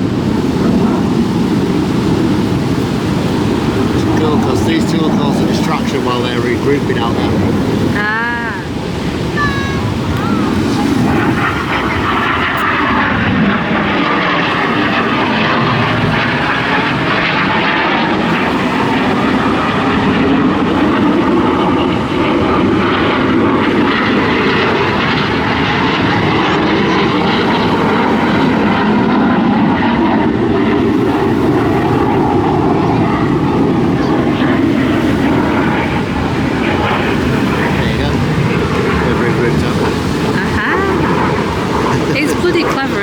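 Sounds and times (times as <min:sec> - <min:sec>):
aircraft engines flying overhead: 0:00.0 - 0:43.0.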